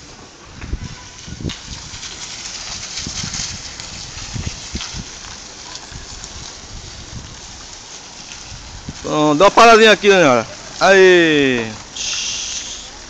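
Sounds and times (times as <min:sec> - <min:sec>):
car tyres rumbling on cobblestones: 0:00.0 - 0:13.0.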